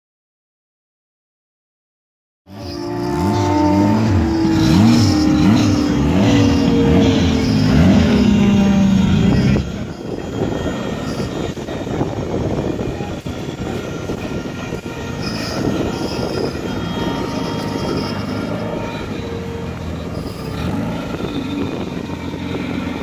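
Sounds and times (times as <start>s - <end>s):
thin whine: 2.5s - 23.0s
car engine running: 2.6s - 23.0s.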